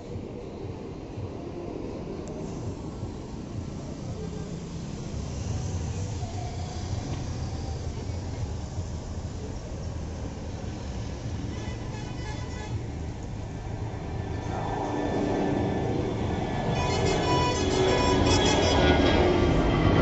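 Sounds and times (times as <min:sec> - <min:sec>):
distant jet engine rumble: 0:00.0 - 0:20.0.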